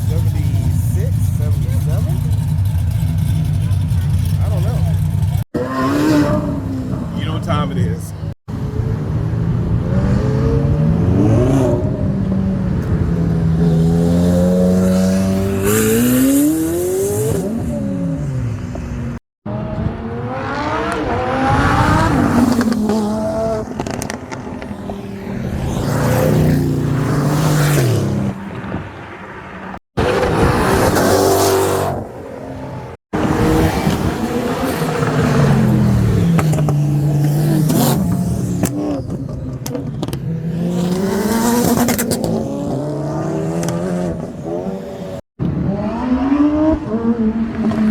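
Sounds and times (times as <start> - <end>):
cars revving and accelerating: 0.0 - 47.9.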